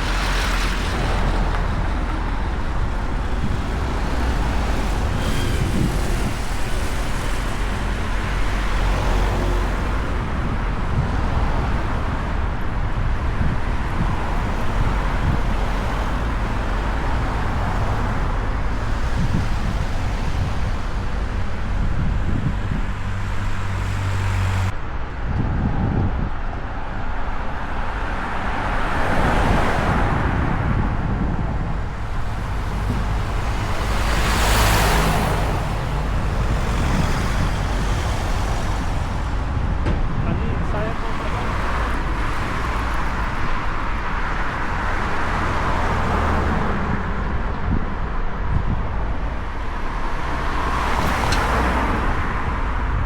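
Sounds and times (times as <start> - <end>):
traffic engine hum: 0.0 - 53.0
vehicles passing: 0.0 - 53.0.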